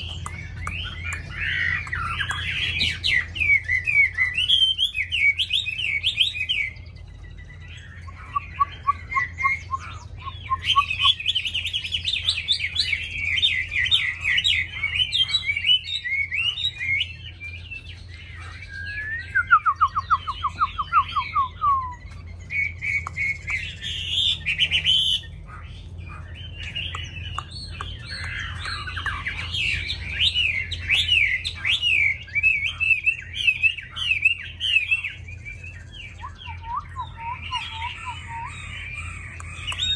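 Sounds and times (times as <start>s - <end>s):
bird singing whistled phrases: 0.0s - 25.4s, 26.1s - 39.9s.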